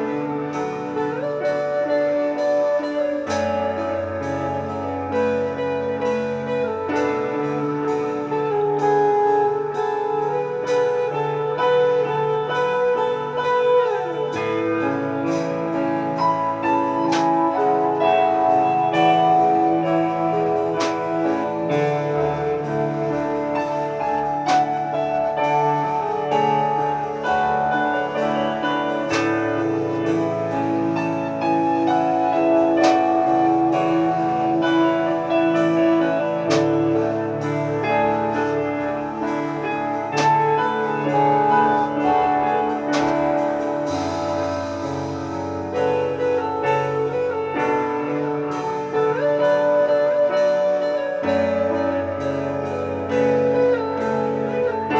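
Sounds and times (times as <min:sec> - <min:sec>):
acoustic band playing: 0:00.0 - 0:54.9
picked guitar notes: 0:00.0 - 0:54.9.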